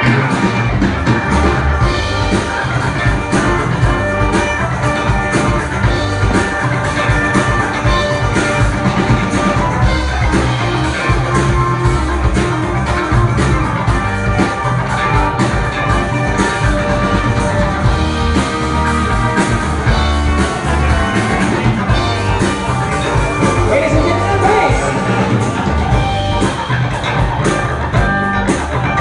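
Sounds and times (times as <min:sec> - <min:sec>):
drum beat: 0:00.0 - 0:29.0
electric guitar: 0:00.0 - 0:29.0.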